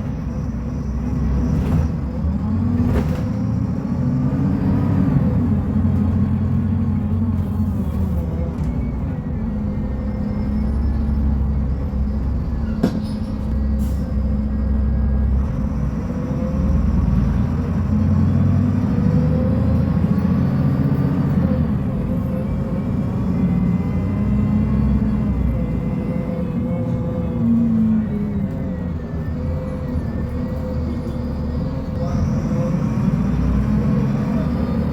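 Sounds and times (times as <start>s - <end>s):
bus diesel engine rumbling: 0.0s - 34.9s.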